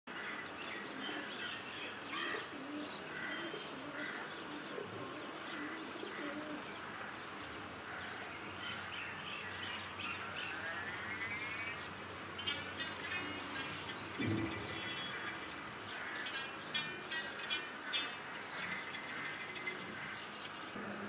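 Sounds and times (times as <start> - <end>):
small birds chirping: 0.2 - 21.0
doves cooing: 0.7 - 8.9, 10.2 - 21.0.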